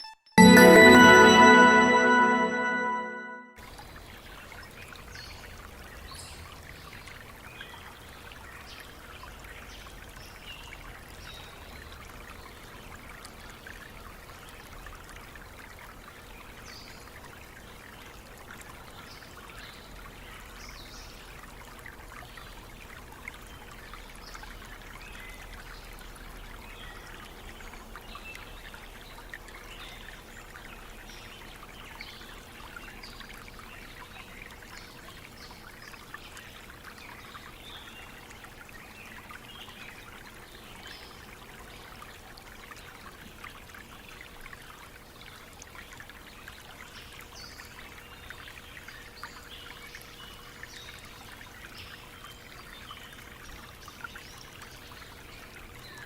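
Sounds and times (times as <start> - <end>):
stream water over rocks: 5.1 - 56.0.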